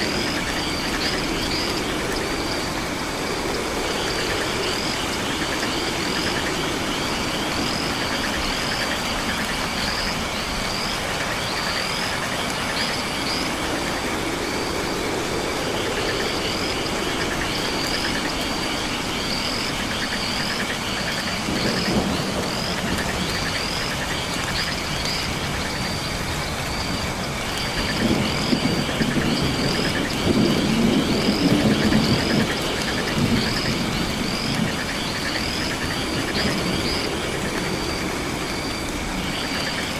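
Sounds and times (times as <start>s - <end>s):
frog and insect chorus: 0.0s - 39.9s.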